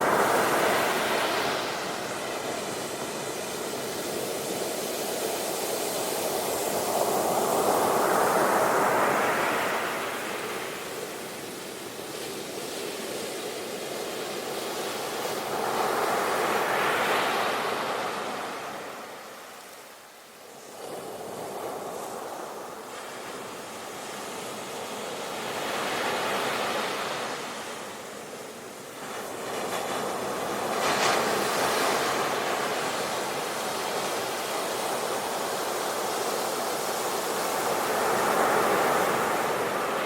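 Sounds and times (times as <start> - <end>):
ocean waves breaking on shore: 0.0 - 40.0.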